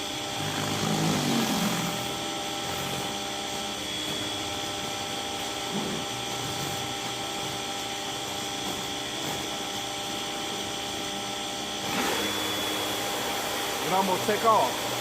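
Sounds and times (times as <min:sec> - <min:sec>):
pressure washer motor whine: 0:00.0 - 0:15.0.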